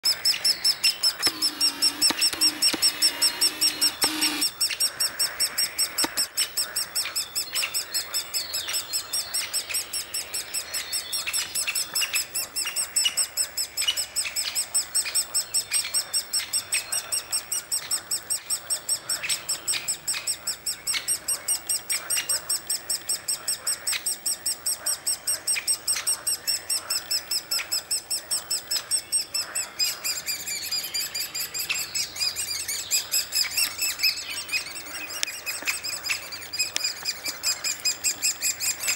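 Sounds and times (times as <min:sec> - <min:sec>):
woodpecker calling: 0:00.0 - 0:38.9.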